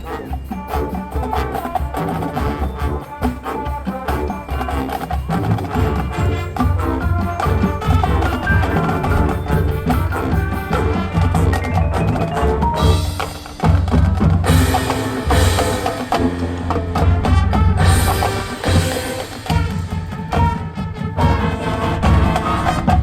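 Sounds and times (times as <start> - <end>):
drums and percussion: 0.0 - 23.0
wind instruments: 0.0 - 23.0.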